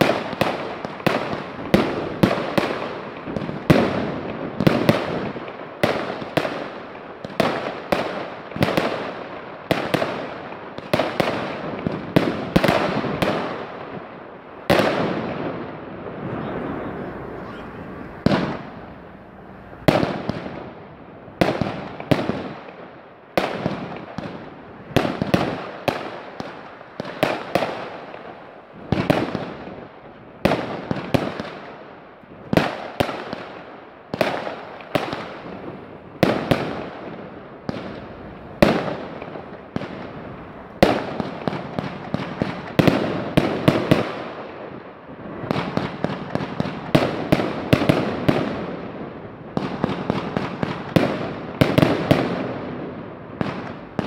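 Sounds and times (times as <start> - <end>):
fireworks banging: 0.0 - 31.8, 32.4 - 54.0.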